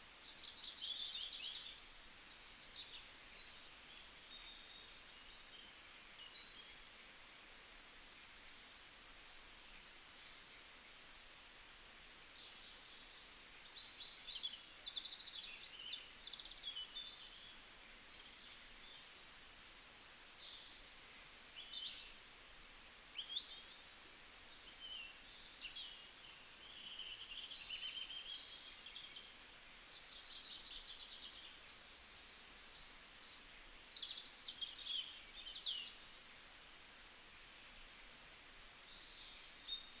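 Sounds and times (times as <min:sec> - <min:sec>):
faint outdoor hiss: 0:00.0 - 0:40.0
small birds chirping: 0:00.0 - 0:40.0.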